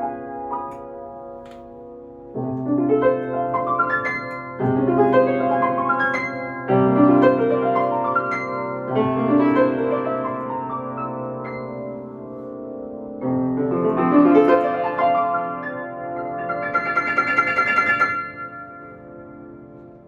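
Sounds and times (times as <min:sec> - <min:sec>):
solo piano arpeggios: 0:00.0 - 0:20.0.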